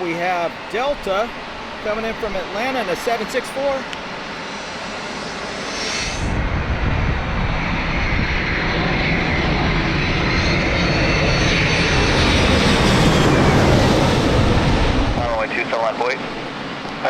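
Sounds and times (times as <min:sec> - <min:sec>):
jet airliner engines rumbling: 0:00.0 - 0:17.0.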